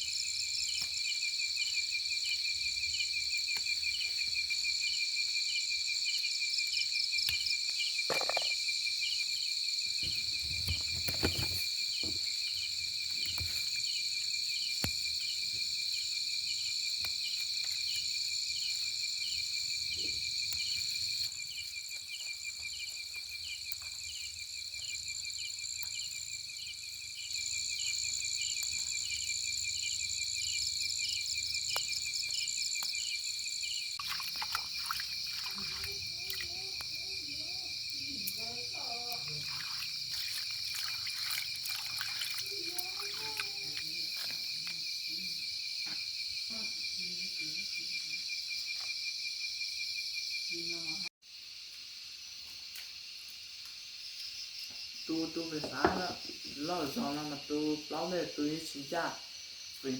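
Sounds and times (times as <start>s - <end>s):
insects shrilling: 7.0s - 59.9s
pulsing insect tone: 7.1s - 59.9s.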